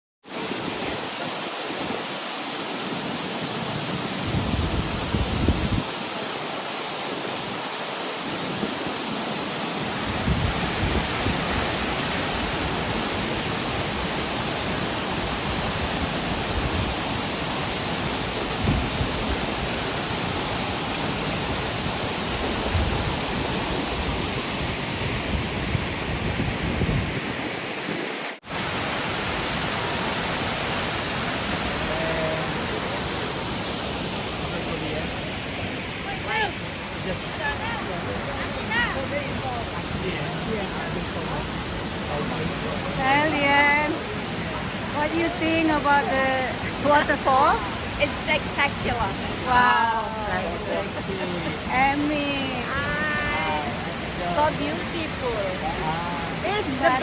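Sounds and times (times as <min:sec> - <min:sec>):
waterfall rushing: 0:00.2 - 0:57.0.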